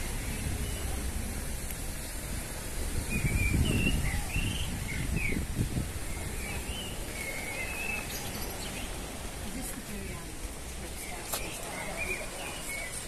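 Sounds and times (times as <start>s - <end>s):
birds chirping: 0.0s - 1.4s, 2.0s - 13.0s.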